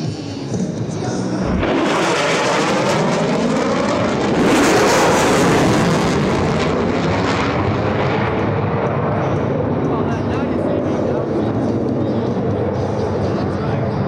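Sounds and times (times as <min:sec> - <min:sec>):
jet flying past: 0:00.6 - 0:14.0.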